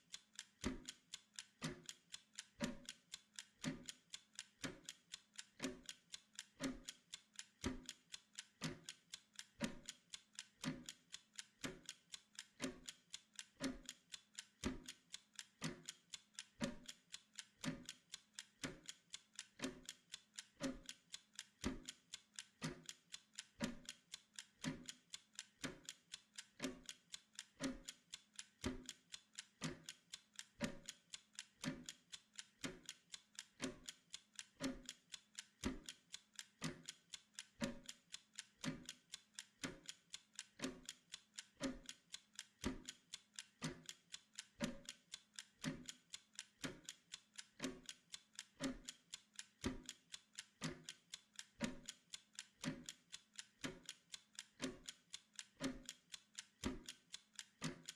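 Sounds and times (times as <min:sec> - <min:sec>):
timer ticking: 0:00.0 - 0:57.9.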